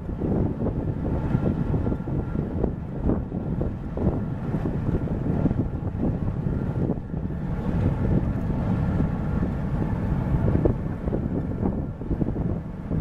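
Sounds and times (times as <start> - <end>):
ship rumbling: 0.0 - 13.0
wind gusting on microphone: 0.0 - 13.0.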